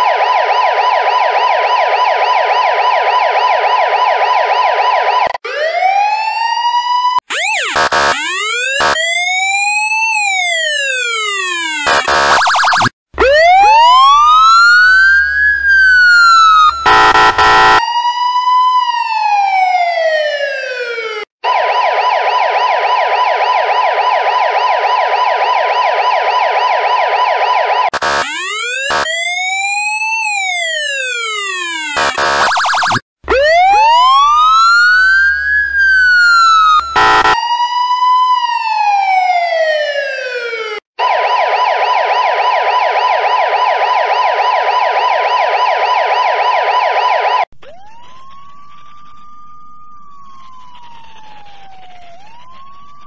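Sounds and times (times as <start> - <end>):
rapid warbling yelp siren: 0.0 - 53.0
slow siren wail: 0.0 - 53.0
siren wind-up rising and falling: 1.4 - 53.0.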